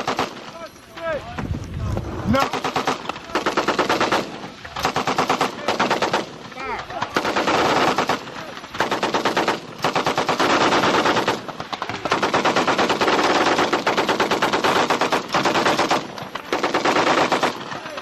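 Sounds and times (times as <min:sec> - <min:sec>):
machine gun automatic fire: 0:00.0 - 0:00.5, 0:02.4 - 0:18.0.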